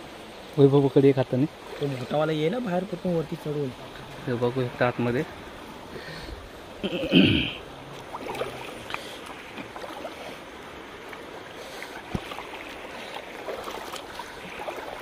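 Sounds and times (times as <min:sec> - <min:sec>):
steady watery hiss: 0:00.0 - 0:15.0
feet wading through water: 0:01.5 - 0:06.8, 0:07.6 - 0:15.0.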